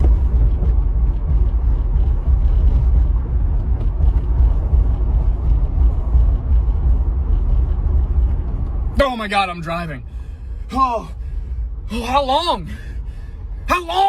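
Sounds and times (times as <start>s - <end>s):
loud low rumble: 0.0s - 13.7s.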